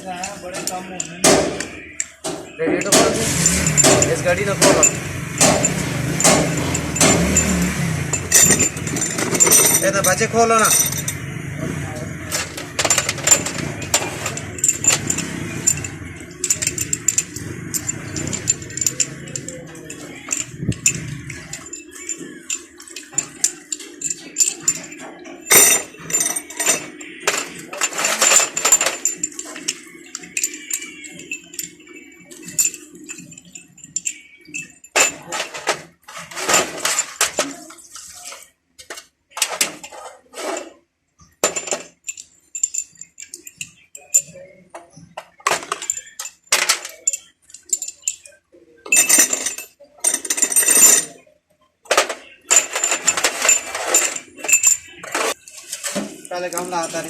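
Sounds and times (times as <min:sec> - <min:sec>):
metal tools clinking and knocking: 0:00.0 - 0:57.0.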